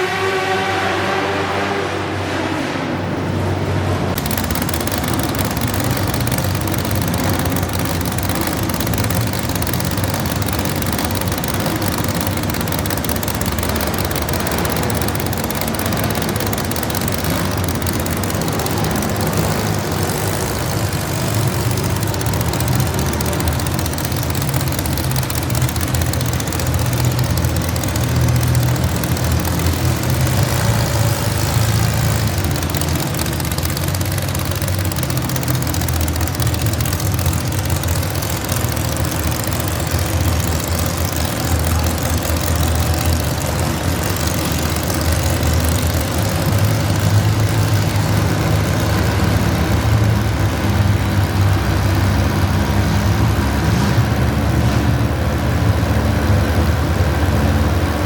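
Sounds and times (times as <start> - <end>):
tractor engine running at high revs: 0.0 - 58.0.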